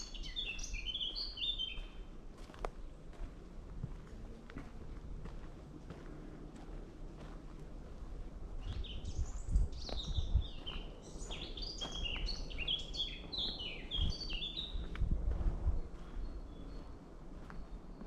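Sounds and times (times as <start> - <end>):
soft footsteps on woodland path: 0.0 - 18.0
songbird singing: 0.0 - 18.0.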